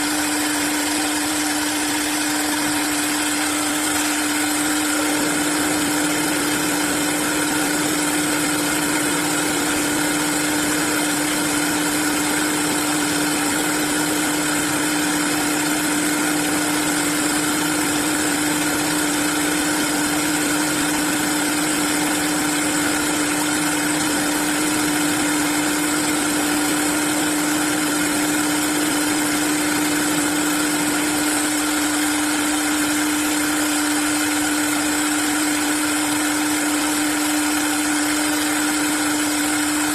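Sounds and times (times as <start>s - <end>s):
wood-turning lathe running: 0.0s - 39.9s.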